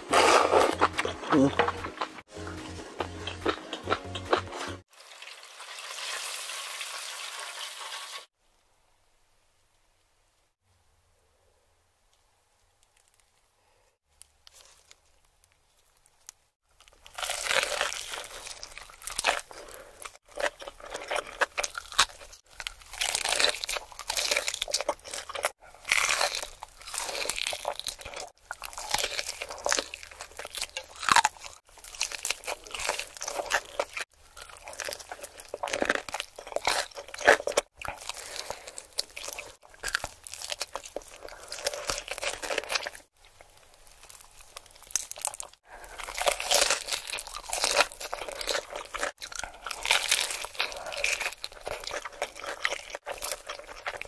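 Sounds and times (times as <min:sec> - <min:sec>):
crunching and chewing crispy food: 0:00.0 - 0:04.8, 0:14.0 - 0:54.0.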